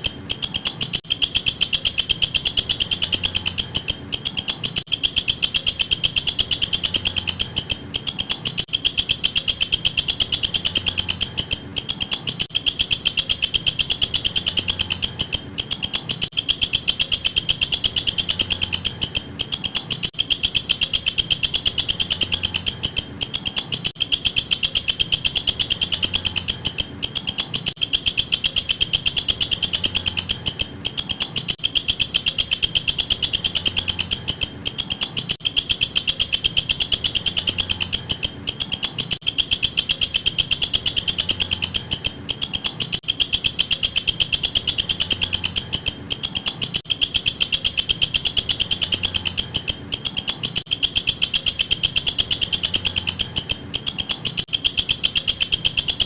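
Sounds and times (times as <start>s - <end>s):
insect high-pitched ticking trill: 0.0s - 56.0s.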